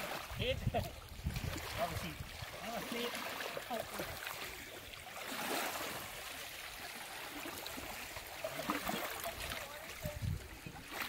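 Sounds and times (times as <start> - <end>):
water lapping and trickling: 0.0 - 11.0.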